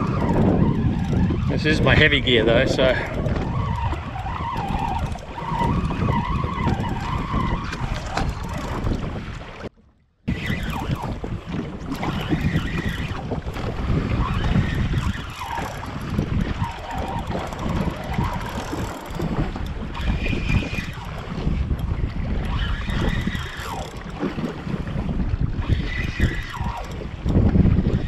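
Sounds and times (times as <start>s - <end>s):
choppy sea water: 0.0s - 28.0s
wind buffeting microphone: 0.0s - 28.0s.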